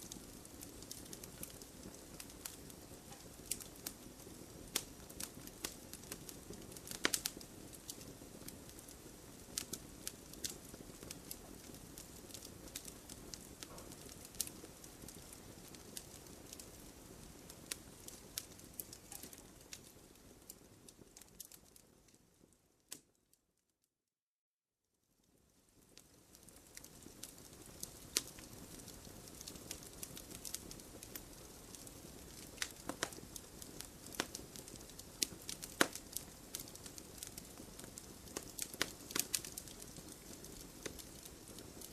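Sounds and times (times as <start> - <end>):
wood fire crackling: 0.0 - 23.2, 25.2 - 41.9.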